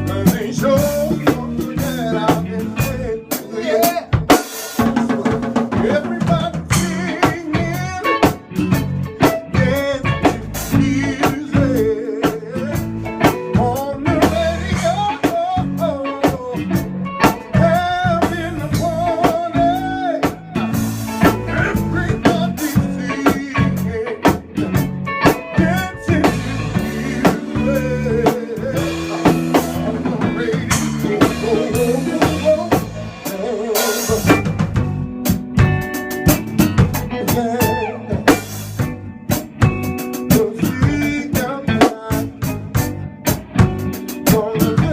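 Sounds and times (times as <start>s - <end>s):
drum kit beat: 0.0s - 44.9s.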